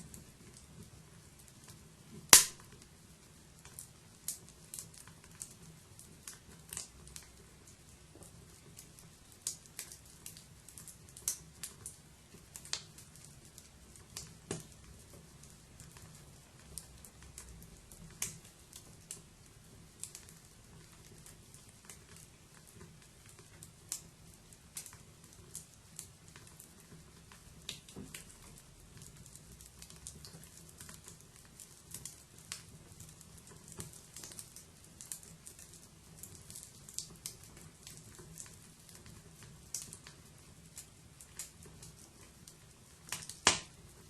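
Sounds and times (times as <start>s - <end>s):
faint steady background noise: 0.0s - 44.0s
wood fire crackling: 0.0s - 44.0s.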